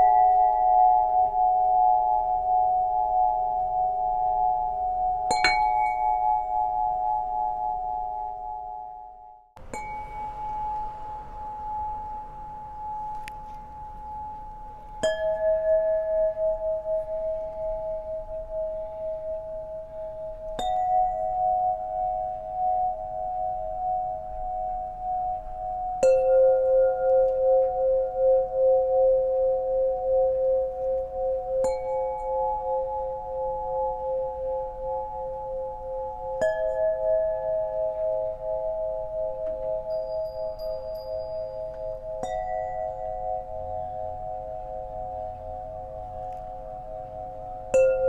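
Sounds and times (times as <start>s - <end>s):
tuning pipes ringing: 0.0s - 48.0s.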